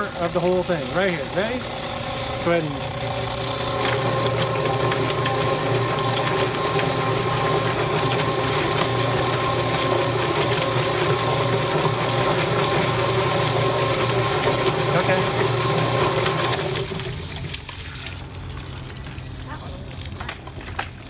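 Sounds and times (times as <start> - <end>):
electric motor hum: 0.0 - 21.0.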